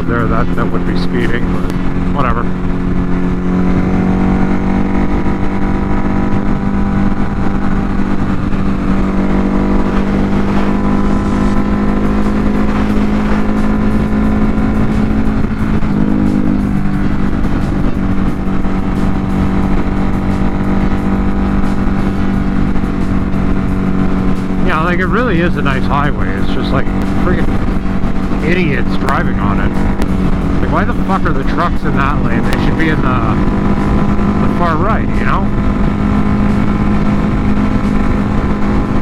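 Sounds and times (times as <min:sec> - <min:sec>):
motorcycle engine cruising: 0:00.0 - 0:39.0.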